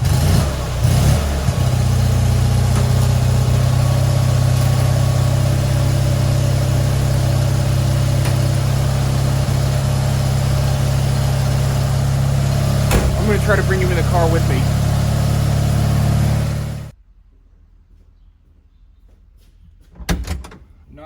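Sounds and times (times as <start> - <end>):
small car engine idling: 0.0 - 17.0.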